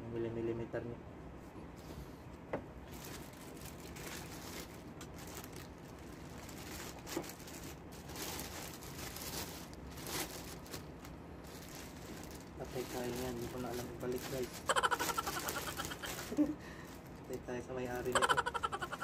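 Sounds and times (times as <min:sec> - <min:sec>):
plastic bag crinkling: 0:02.9 - 0:19.0.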